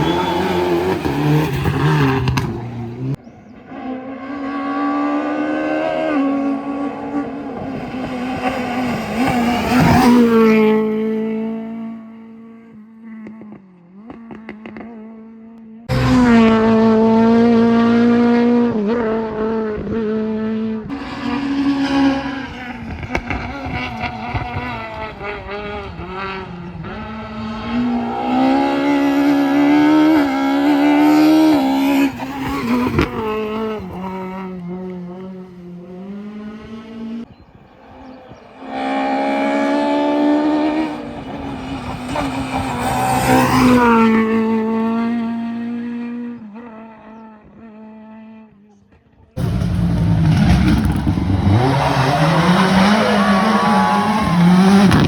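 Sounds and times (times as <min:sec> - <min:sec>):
rally car engines revving: 0:00.0 - 0:48.4, 0:49.0 - 0:55.0.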